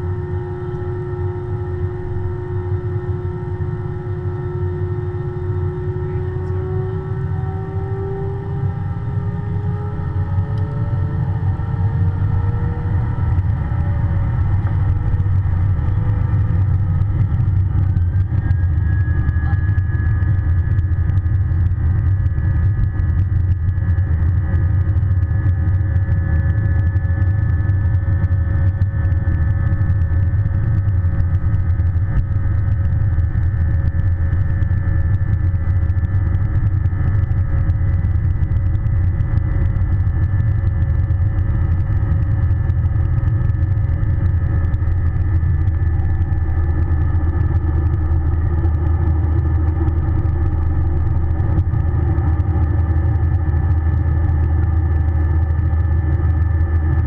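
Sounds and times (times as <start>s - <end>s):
jet engine cabin rumble: 0.0s - 57.0s
steady engine whine: 0.0s - 57.0s.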